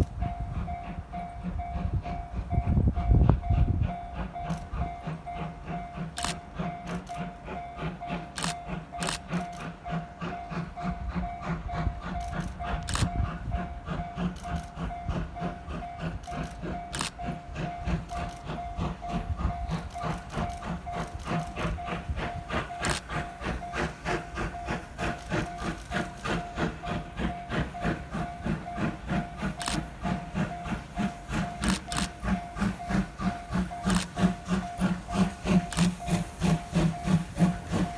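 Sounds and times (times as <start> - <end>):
crossing warning bell ringing: 0.0 - 37.9
steam hissing: 0.0 - 37.9.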